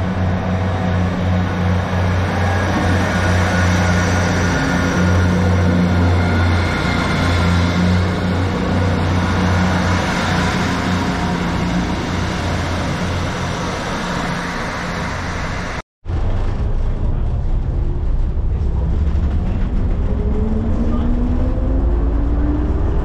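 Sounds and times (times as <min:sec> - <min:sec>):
faint rising whine: 0:00.0 - 0:23.0
train running rumble: 0:00.0 - 0:23.0.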